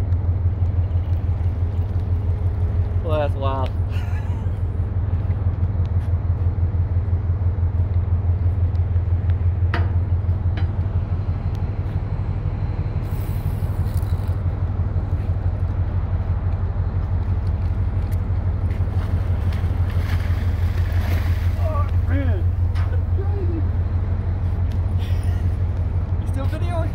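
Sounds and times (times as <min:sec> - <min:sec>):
ship engine deep hum: 0:00.0 - 0:26.9.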